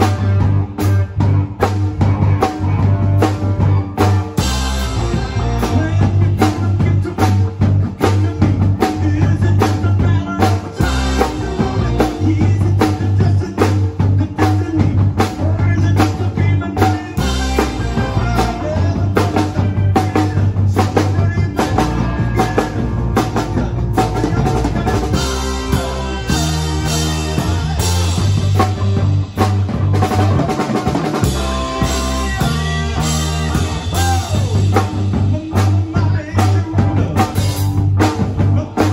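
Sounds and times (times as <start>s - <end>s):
drum kit beat: 0.0s - 38.9s
live rock band playing: 0.0s - 38.9s.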